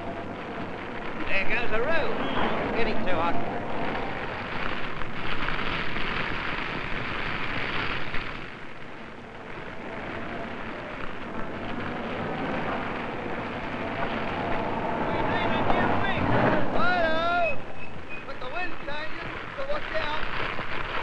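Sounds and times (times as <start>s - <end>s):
scrub fire crackling and rushing: 0.0s - 21.0s.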